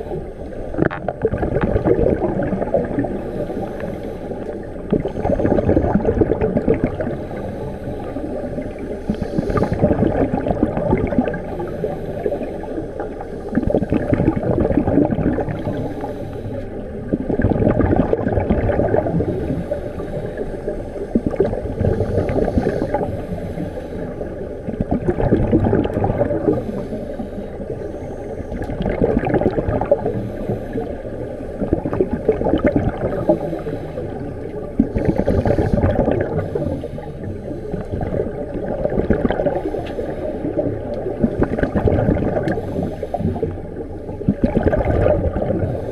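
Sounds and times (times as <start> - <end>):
exhaled bubbles gurgling underwater: 0.0 - 45.9.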